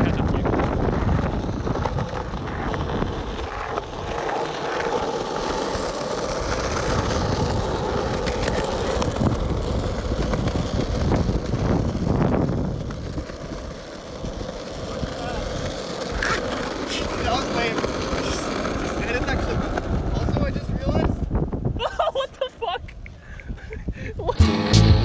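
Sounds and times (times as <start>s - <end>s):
skateboard wheels on asphalt: 0.0s - 25.0s.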